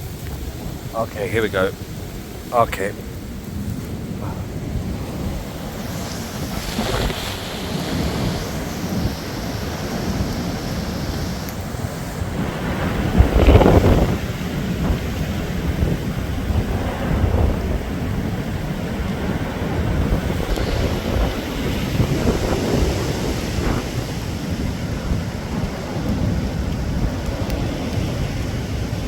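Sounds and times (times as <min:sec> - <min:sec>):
heavy rain: 0:00.0 - 0:29.0
wind buffeting microphone: 0:00.0 - 0:29.0.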